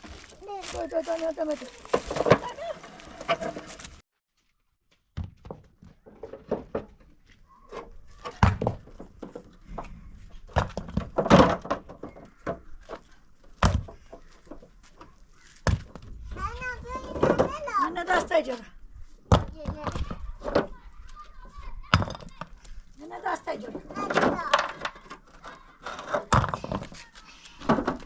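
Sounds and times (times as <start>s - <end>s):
objects knocking and thudding: 1.6s - 4.0s, 5.1s - 18.4s, 19.2s - 28.0s.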